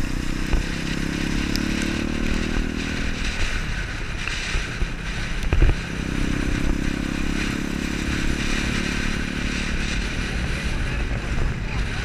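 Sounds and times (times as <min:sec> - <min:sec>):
motorcycle engine running: 0:00.0 - 0:12.0
rushing noise: 0:00.0 - 0:12.0.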